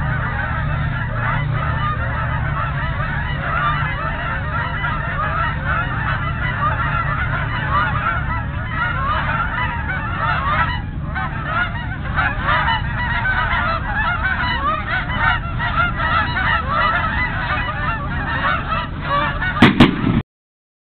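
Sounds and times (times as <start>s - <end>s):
geese honking: 0.0s - 20.2s
steady low rumble: 0.0s - 20.2s.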